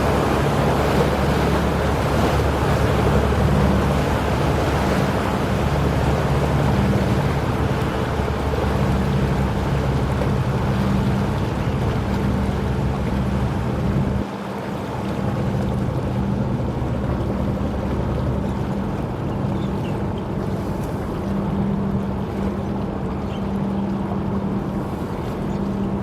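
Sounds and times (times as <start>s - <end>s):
boat engine drone: 0.0s - 26.0s
water washing: 0.0s - 26.0s
wind buffeting microphone: 0.0s - 26.0s.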